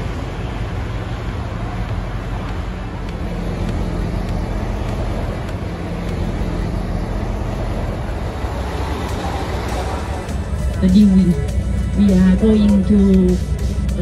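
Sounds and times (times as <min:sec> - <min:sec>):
idling coaches: 0:00.0 - 0:14.0
road traffic rumble: 0:00.0 - 0:14.0.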